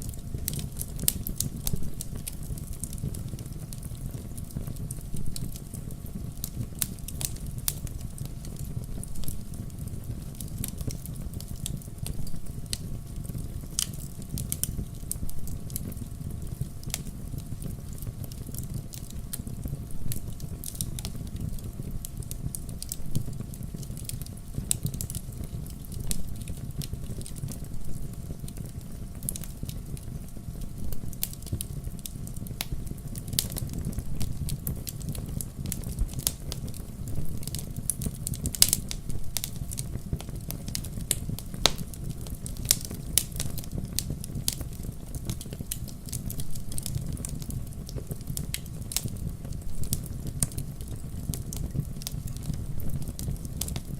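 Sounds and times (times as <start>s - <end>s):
burning logs crackling and popping: 0.0s - 53.9s
low rumble of flames: 0.0s - 53.9s.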